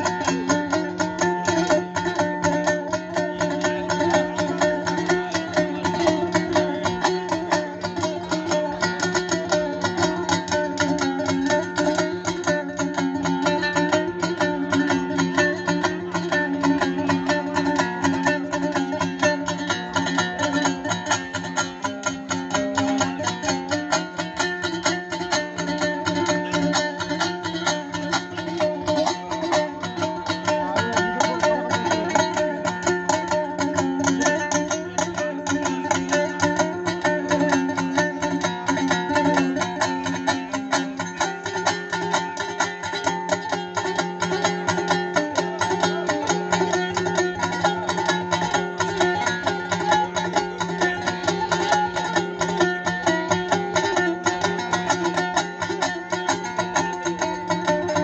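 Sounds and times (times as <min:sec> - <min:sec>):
droning strings: 0:00.0 - 0:58.0
lute strummed fast: 0:00.0 - 0:58.0.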